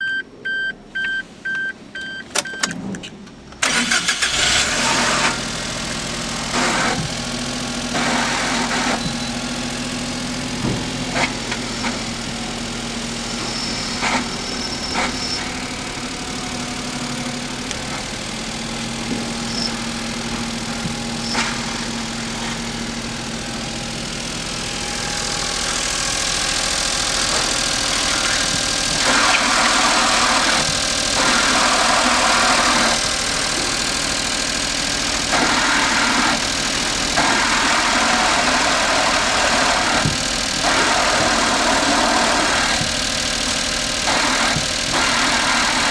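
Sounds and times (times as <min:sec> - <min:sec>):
van engine idling: 0:00.0 - 0:45.9
rough hissy clutch grinding: 0:02.3 - 0:09.1, 0:11.0 - 0:45.9.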